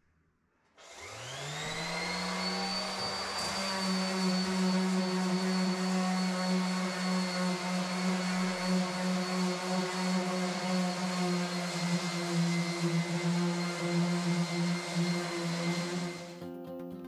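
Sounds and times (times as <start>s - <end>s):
electric sander whining: 0.8s - 16.4s.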